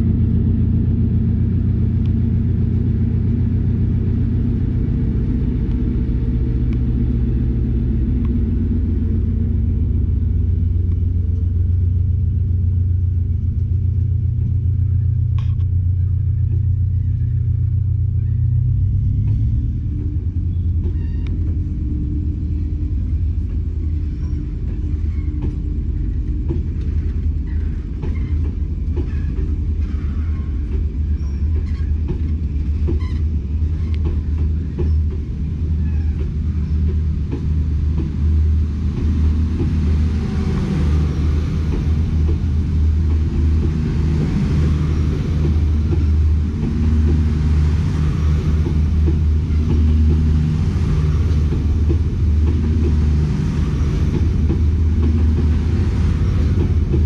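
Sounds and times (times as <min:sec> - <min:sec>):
train running past: 0:00.0 - 0:57.0.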